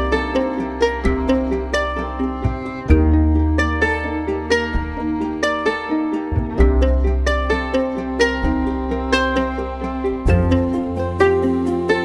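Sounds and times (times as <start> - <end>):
bass line: 0.0 - 12.0
plucked string notes: 0.0 - 12.0.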